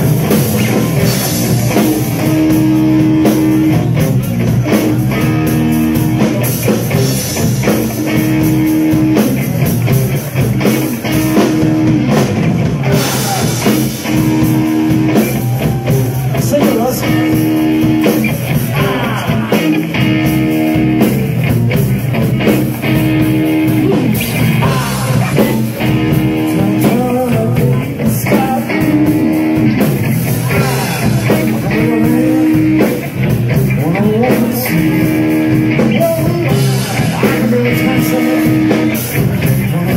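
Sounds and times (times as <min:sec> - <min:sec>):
live psychedelic blues rock: 0:00.0 - 0:39.9.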